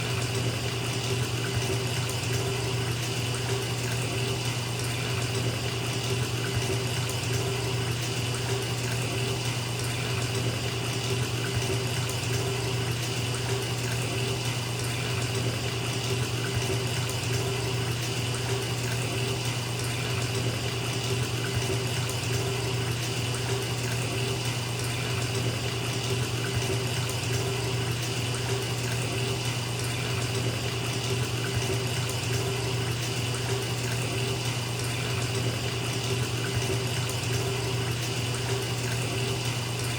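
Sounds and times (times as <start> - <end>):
tap water pouring into bathtub: 0.0 - 39.9.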